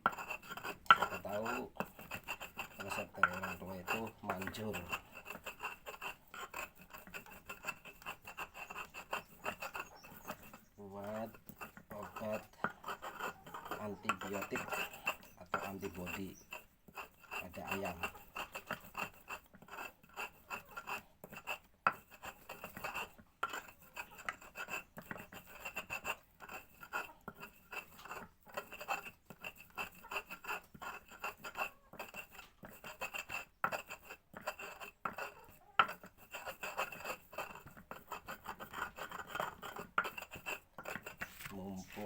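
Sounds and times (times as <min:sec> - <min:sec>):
pestle grinding in mortar: 0:00.0 - 0:42.0.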